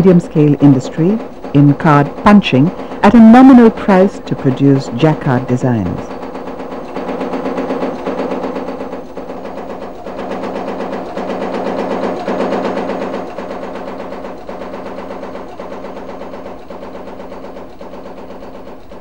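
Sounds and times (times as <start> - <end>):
card-punching machine clattering: 0.0 - 19.0
steady hum: 0.0 - 19.0.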